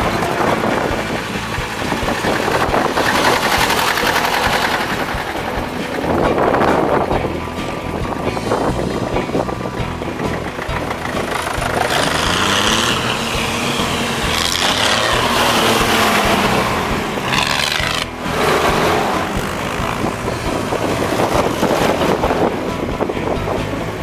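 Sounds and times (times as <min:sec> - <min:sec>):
tractor engines passing: 0:00.0 - 0:24.0.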